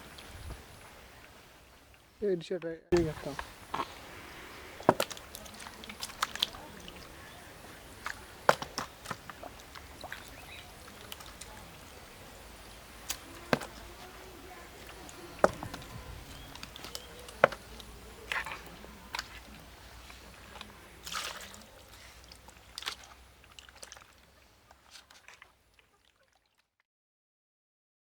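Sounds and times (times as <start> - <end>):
faint steady background noise: 0.0 - 26.6
water splashes: 0.0 - 26.7.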